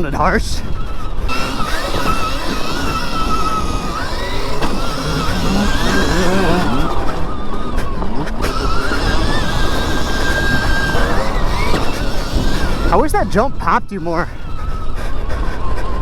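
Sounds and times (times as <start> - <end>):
dirt bike engine whine: 0.0 - 16.0.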